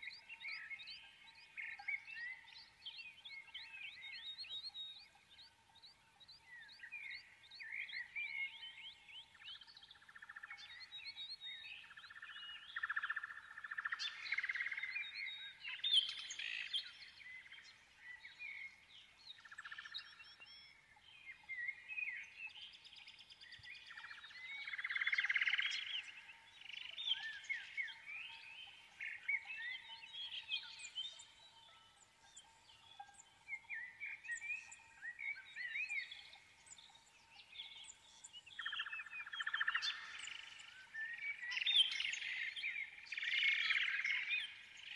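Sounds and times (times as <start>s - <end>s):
small birds chirping and singing: 0.0s - 44.9s.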